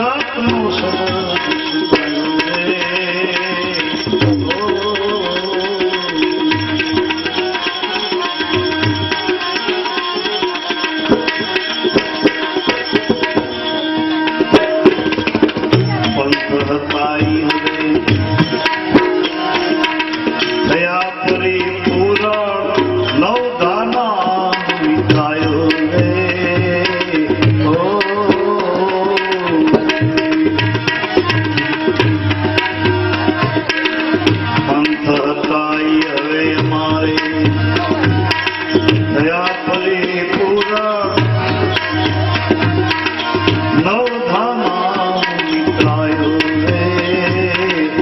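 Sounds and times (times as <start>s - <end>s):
tabla playing: 0.0s - 48.0s.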